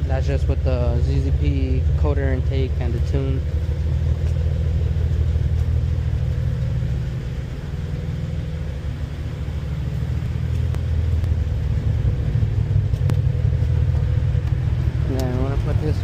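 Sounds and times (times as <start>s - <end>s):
car exhaust low drone: 0.0s - 16.0s.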